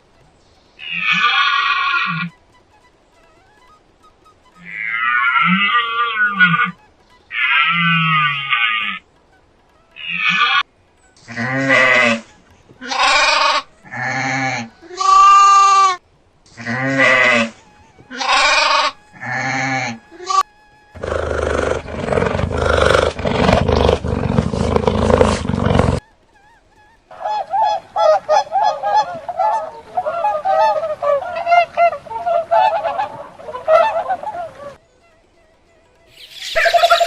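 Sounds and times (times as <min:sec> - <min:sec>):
group of birds calling: 0:00.0 - 0:16.0, 0:16.9 - 0:37.0
rough noisy calling: 0:00.0 - 0:37.0
short pitched animal calls: 0:00.0 - 0:37.0.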